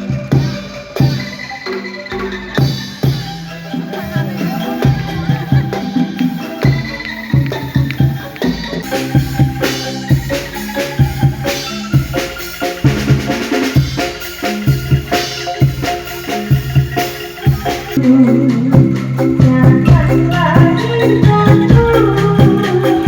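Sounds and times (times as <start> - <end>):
melody of struck notes: 0.0 - 23.0
steady drum beat: 0.0 - 23.0.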